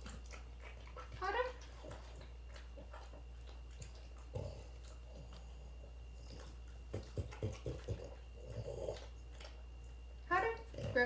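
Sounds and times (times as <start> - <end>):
dog eating sounds: 0.0 - 11.0
steady low hum: 0.0 - 11.0.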